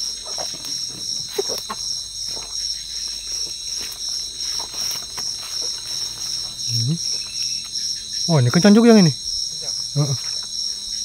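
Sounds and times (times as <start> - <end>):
footsteps through undergrowth: 0.0 - 7.8, 9.6 - 11.0
insects chirping: 0.0 - 11.0.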